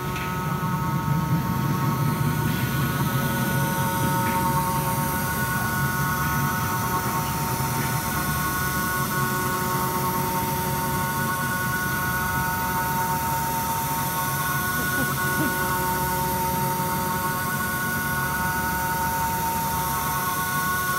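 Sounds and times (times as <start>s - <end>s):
continuous mechanical noise: 0.0s - 20.9s
machine whine of held tones: 0.0s - 20.9s.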